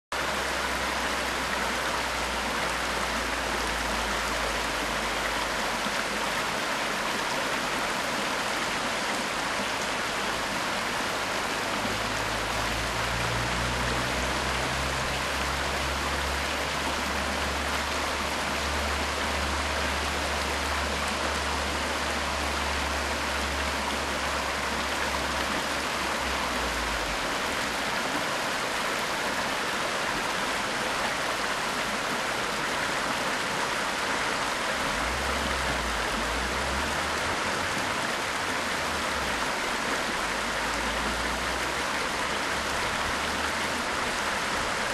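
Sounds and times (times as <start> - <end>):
creek flowing over rocks: 0.1 - 44.9.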